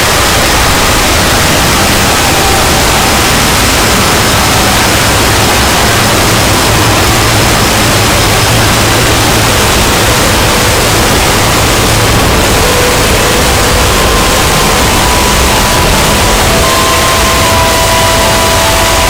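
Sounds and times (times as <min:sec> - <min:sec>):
faint steady tones: 0:00.0 - 0:19.0
harsh distorted noise: 0:00.0 - 0:19.0.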